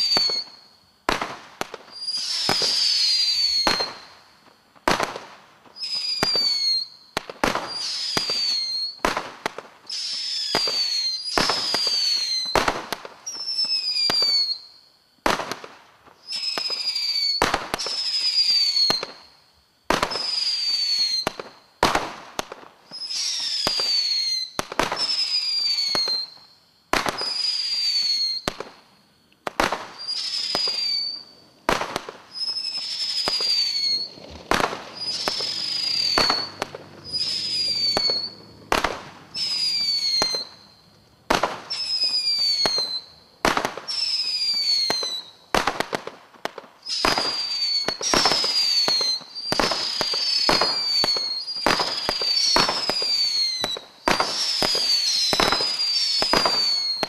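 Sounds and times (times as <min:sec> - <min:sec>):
falling firework whistle: 0:00.0 - 0:57.0
firework shots: 0:00.0 - 0:57.0
hissing firework trail: 0:00.0 - 0:57.0.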